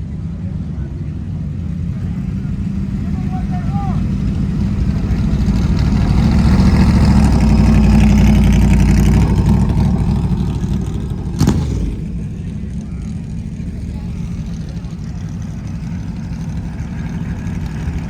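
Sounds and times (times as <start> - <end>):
car passing by: 1.5 - 18.0.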